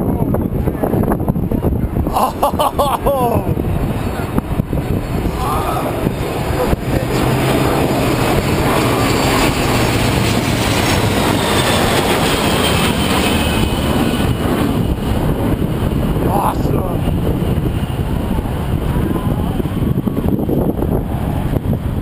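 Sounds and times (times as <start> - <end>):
jet aircraft roar: 0.0 - 22.0.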